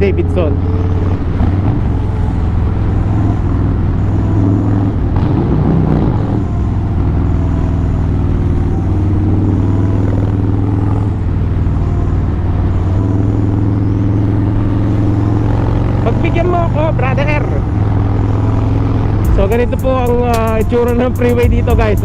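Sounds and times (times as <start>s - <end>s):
motorcycle engine cruising: 0.0s - 22.0s.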